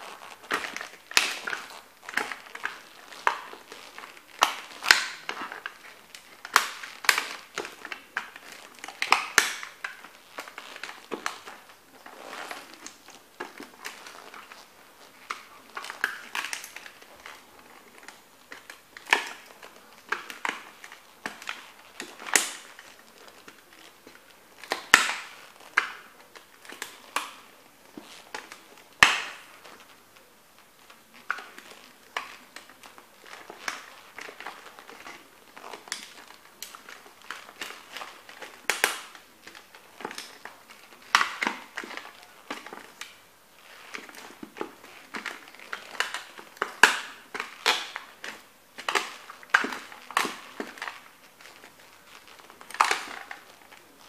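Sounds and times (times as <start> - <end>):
toy car cracking and crunching: 0.0 - 54.0.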